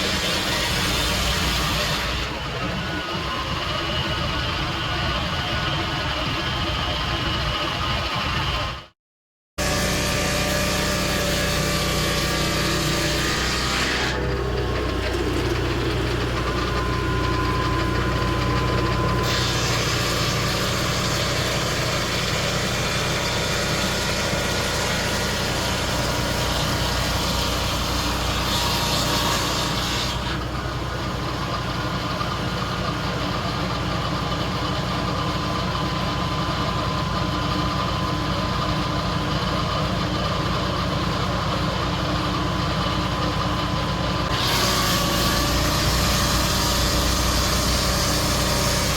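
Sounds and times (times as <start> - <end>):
sawmill engine running: 0.0 - 8.9, 9.6 - 48.9.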